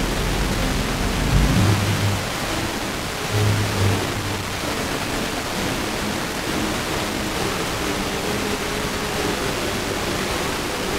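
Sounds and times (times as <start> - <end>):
faint classical music: 0.0 - 10.9
radio static hiss: 0.0 - 10.9.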